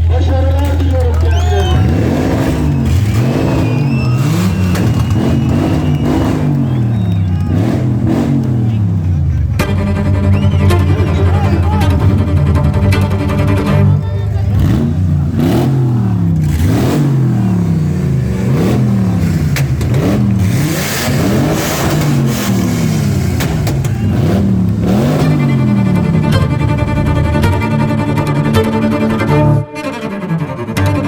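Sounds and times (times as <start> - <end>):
race vehicle engine revving: 0.0 - 29.6.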